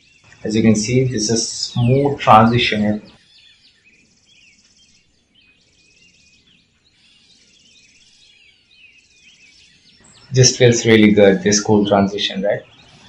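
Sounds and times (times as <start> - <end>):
faint birds chirping: 0.0 - 13.0
high bird trill: 0.0 - 13.0.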